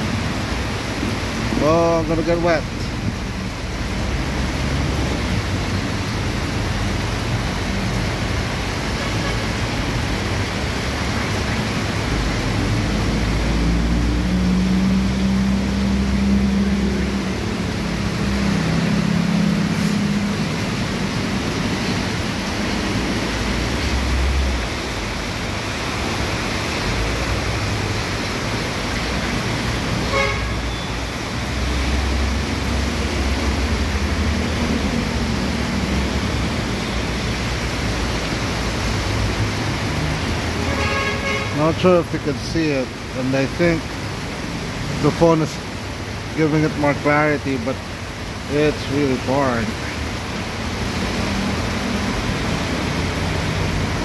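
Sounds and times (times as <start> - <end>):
heavy rain on street: 0.0 - 54.0
rumble of passing vehicles: 0.0 - 54.0.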